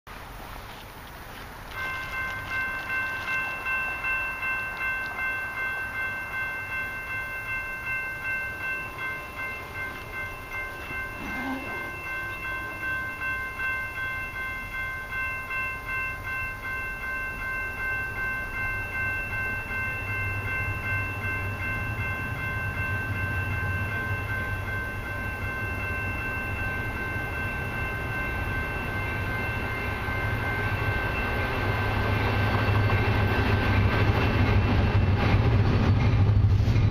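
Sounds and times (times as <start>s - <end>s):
diesel locomotives rumbling: 0.1s - 36.9s
warning bell ringing: 1.7s - 35.0s.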